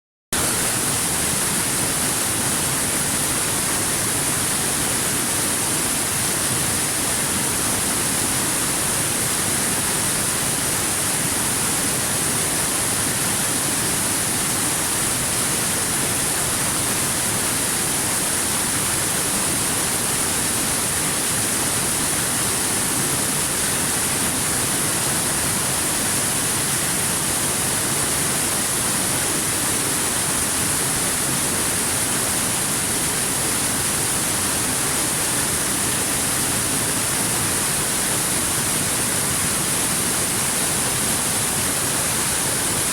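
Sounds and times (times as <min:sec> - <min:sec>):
water rushing and splashing: 0:00.4 - 0:42.9.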